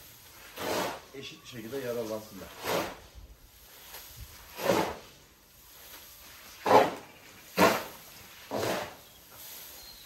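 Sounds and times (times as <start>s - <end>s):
shovel scooping grain: 0.0s - 10.0s.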